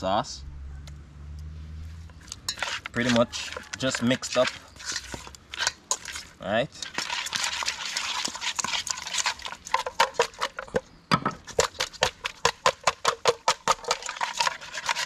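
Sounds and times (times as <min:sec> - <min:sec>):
meat mixed by hand in metal bowl: 0:02.1 - 0:15.0.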